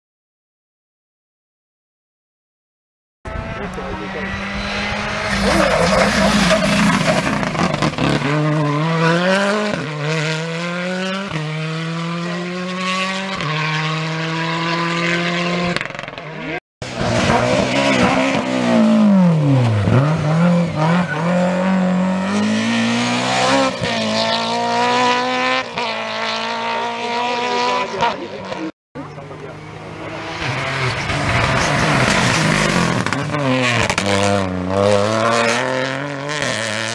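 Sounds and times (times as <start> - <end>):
rally car engine accelerating: 3.3 - 36.9.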